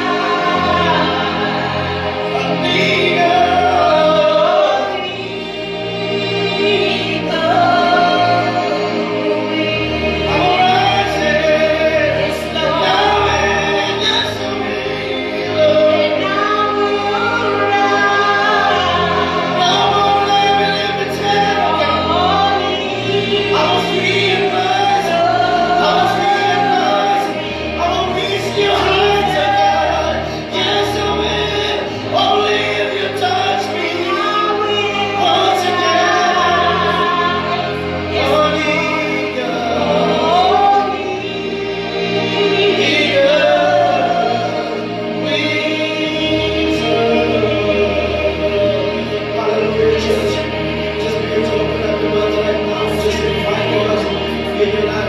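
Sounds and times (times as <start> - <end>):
gospel singing: 0.0 - 55.0
sustained keyboard chords: 0.0 - 55.0.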